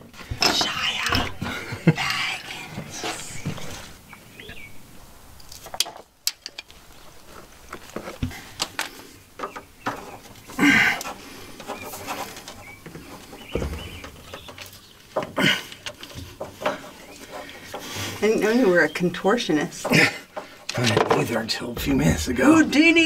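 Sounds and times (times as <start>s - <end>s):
plumbing tools clicking and scraping: 0.0s - 3.9s, 5.4s - 23.0s.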